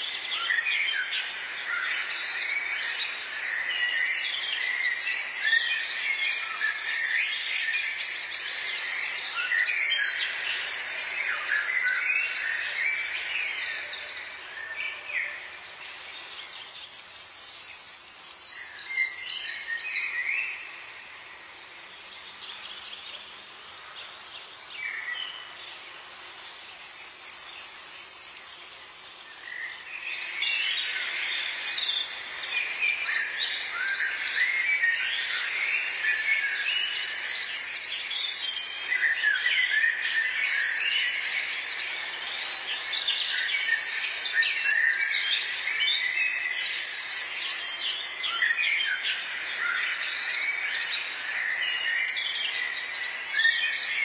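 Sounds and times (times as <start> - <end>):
songbirds chirping and whistling: 0.0 - 54.0.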